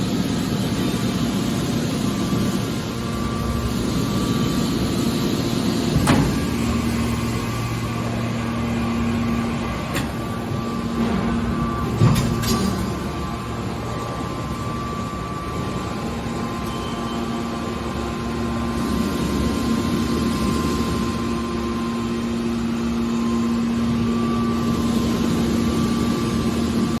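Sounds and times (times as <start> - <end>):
hydraulic machine humming: 0.0 - 27.0.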